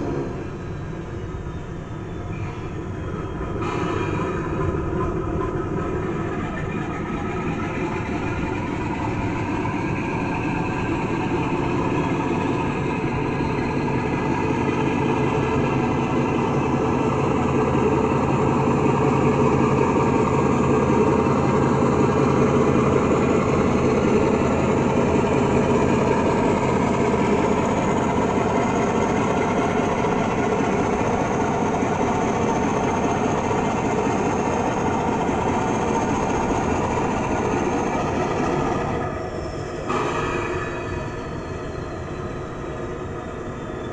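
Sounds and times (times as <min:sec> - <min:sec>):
diesel locomotive engine through speaker: 0:00.0 - 0:43.9.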